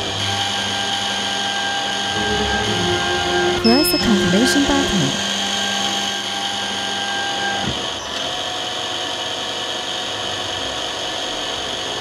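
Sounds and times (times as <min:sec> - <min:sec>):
drill motor high whine: 0:00.0 - 0:12.0.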